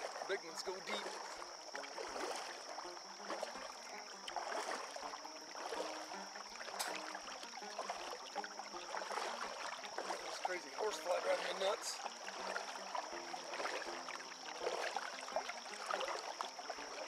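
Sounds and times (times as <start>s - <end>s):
paddle stroking through water: 0.0s - 17.0s
water dripping off blades: 0.0s - 17.0s.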